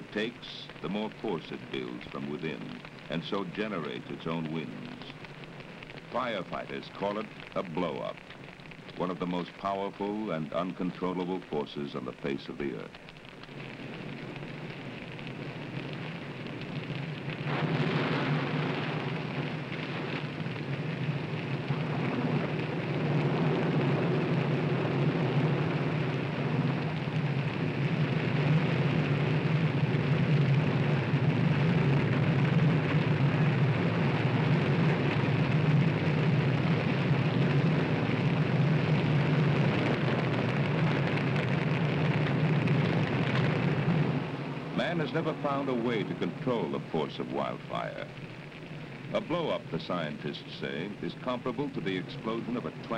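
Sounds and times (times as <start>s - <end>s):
wildfire roaring: 0.0s - 52.9s.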